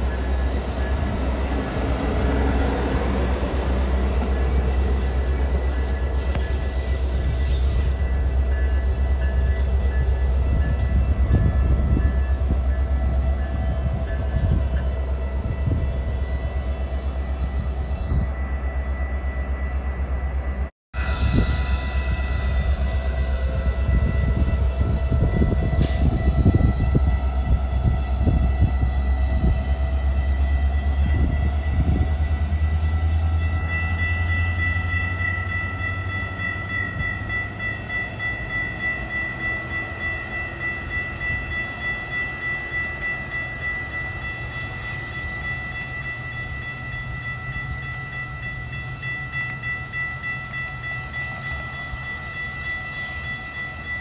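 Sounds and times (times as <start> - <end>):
high ringing tones: 0.0 - 54.0
train rumbling past: 0.0 - 54.0.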